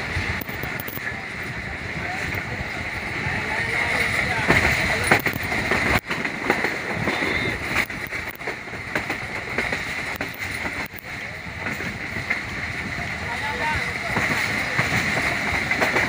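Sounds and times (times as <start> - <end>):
train rushing rumble: 0.0 - 16.0
wheels clacking on rails: 0.0 - 16.0.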